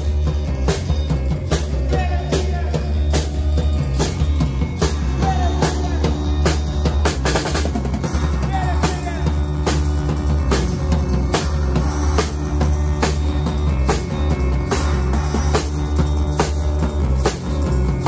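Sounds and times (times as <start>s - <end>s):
band playing instrumental: 0.0s - 18.0s
drum kit beating: 0.0s - 18.0s
sustained bass line: 0.0s - 18.0s.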